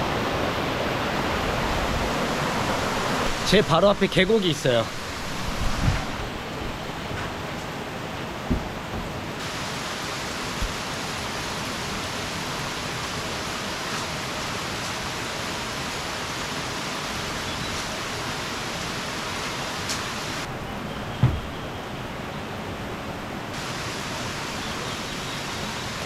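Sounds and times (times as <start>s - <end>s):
heavy rain: 0.0s - 26.0s
mountain stream rushing: 0.0s - 26.0s.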